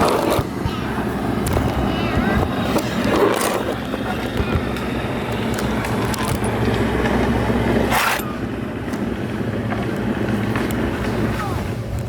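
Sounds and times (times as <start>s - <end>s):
steady low rumble: 0.0s - 12.0s
tire reamer scraping and clicking: 0.0s - 12.0s.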